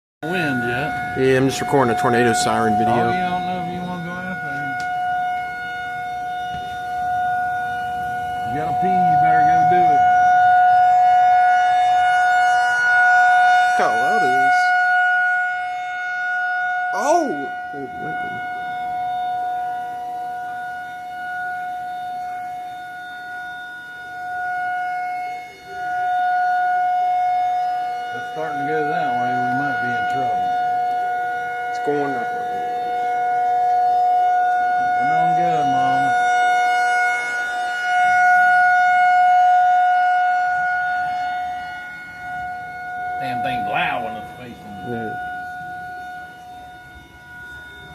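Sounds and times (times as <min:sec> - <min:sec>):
tornado warning siren: 0:00.2 - 0:47.9.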